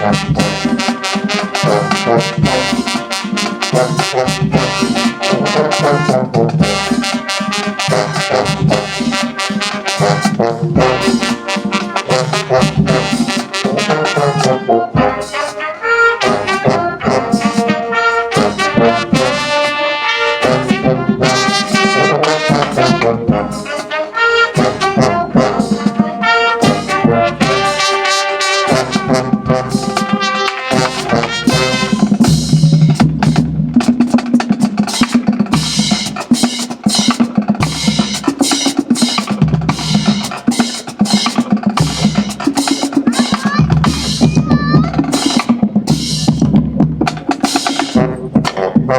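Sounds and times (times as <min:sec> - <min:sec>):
band playing brass tune: 0:00.0 - 0:48.9
drums: 0:00.0 - 0:48.9.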